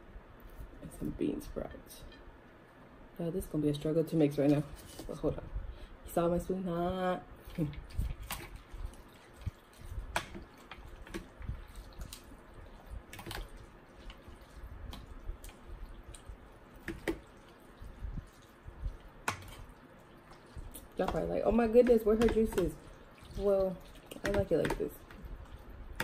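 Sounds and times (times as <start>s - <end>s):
wet squishing and stirring: 4.2s - 26.0s.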